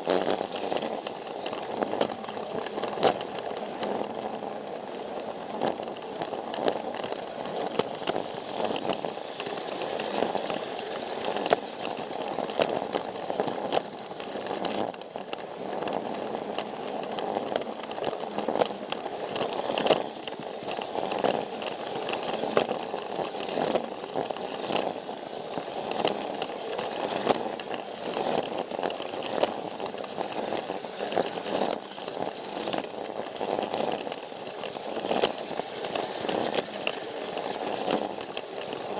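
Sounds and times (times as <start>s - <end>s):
toy train motor whirring: 0.0s - 38.9s
wheels clicking over track joints: 0.0s - 38.9s.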